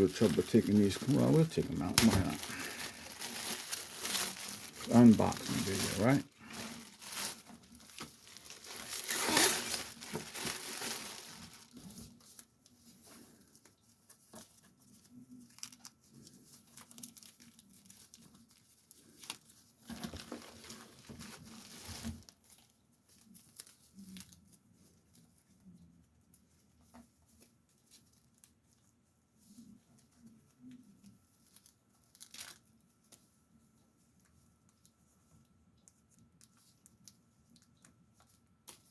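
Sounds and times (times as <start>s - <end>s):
packaging rustling and crinkling: 0.0s - 38.9s.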